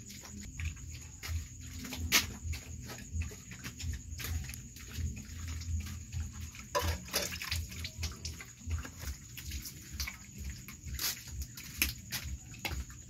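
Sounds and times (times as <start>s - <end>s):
dog chewing and lapping: 0.2s - 13.0s.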